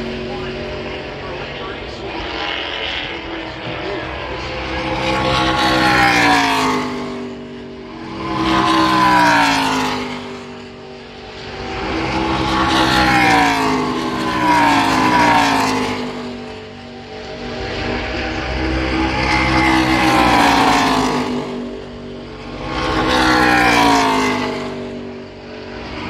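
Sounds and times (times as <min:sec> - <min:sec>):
race car engines passing by: 0:00.0 - 0:26.0.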